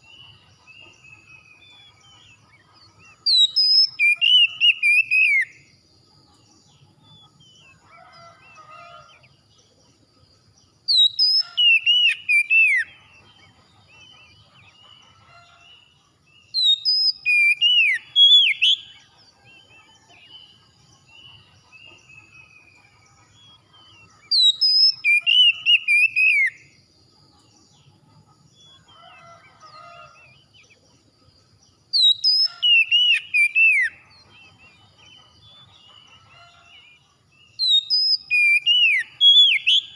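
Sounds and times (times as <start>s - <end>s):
whistled bird song: 0.0s - 9.2s, 10.8s - 27.9s, 31.8s - 39.9s.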